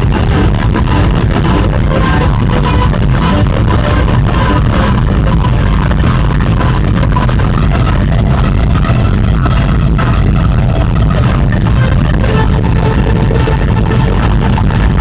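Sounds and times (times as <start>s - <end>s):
live rock band playing loudly: 0.0s - 15.0s.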